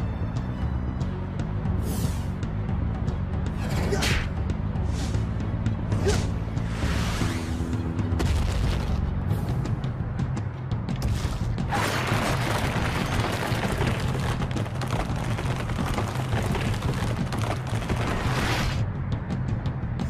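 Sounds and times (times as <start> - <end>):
dramatic background music: 0.0 - 20.0.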